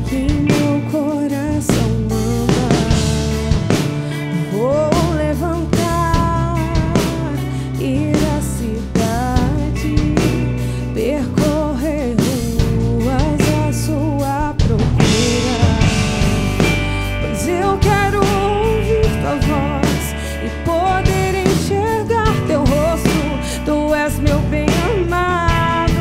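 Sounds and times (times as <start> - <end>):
band playing a song: 0.0 - 26.0
drum kit: 0.0 - 26.0
person singing: 0.0 - 26.0.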